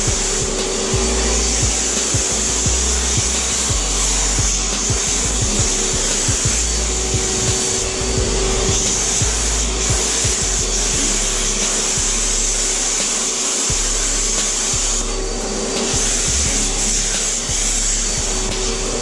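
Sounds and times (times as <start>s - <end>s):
spray gun air rush: 0.0s - 19.0s
turbine hum: 0.0s - 19.0s.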